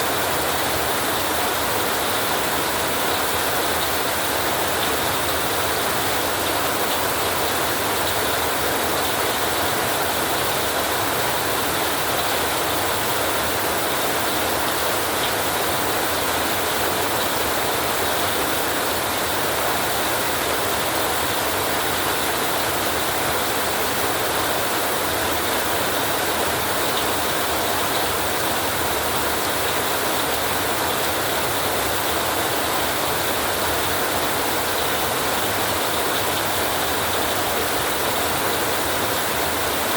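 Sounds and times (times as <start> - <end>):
heavy rain on tin roof: 0.0 - 39.9.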